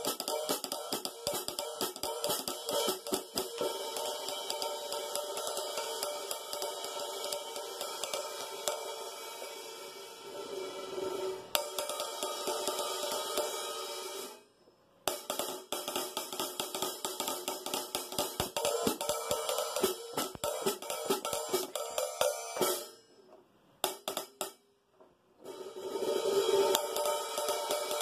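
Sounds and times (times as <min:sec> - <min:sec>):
drumstick striking hi-hat: 0:00.0 - 0:14.4, 0:15.1 - 0:23.1, 0:23.8 - 0:24.6, 0:25.4 - 0:28.0.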